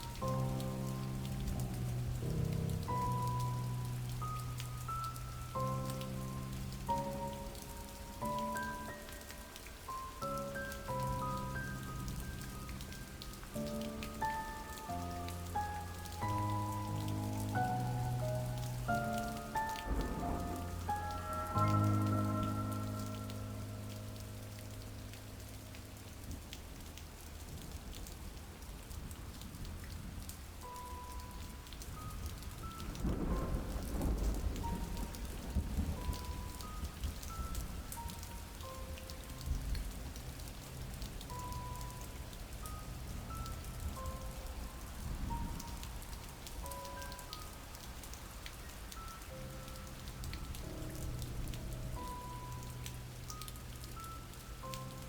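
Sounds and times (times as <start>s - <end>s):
low rumble of thunder: 0.0s - 8.6s, 15.0s - 26.5s, 27.5s - 38.6s, 39.2s - 47.2s, 48.6s - 54.4s
slow ambient music: 0.0s - 27.4s, 30.4s - 55.0s
rain falling: 0.0s - 55.0s.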